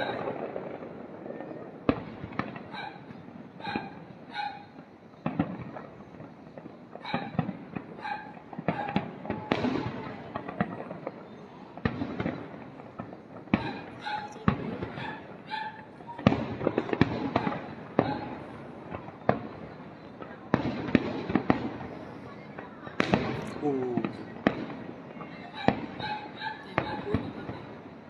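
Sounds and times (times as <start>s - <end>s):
aerial fireworks bursting: 0.0s - 28.0s.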